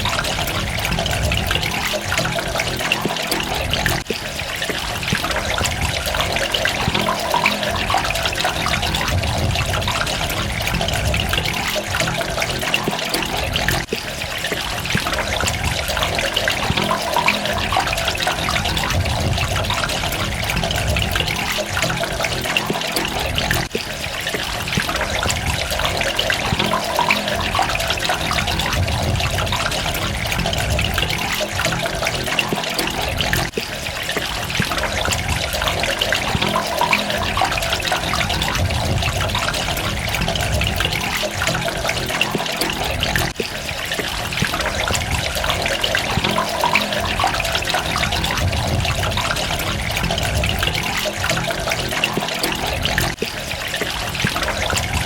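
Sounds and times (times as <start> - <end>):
running water spattering: 0.0 - 55.0.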